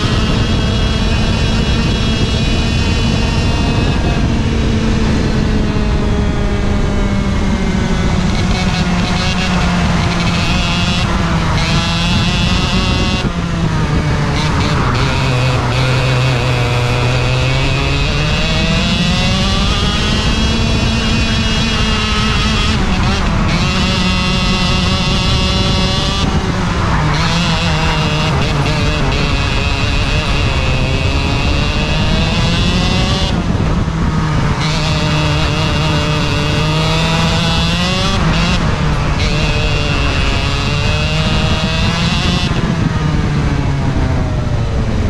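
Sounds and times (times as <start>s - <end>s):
kart engine accelerating: 0.0s - 45.0s.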